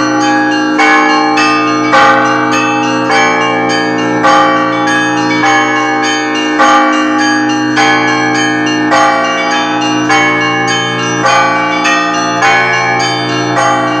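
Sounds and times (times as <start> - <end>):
hum of large bells: 0.0 - 14.0
small bells struck rhythmically: 0.0 - 14.0.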